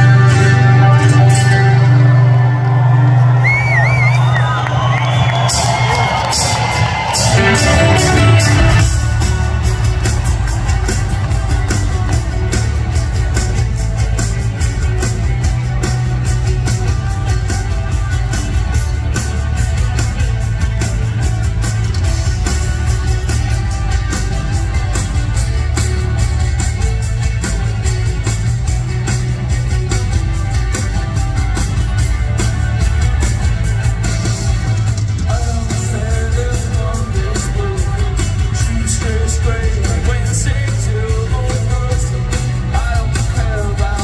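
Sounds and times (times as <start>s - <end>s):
rock band playing: 0.0s - 44.0s
crowd cheering: 0.9s - 44.0s.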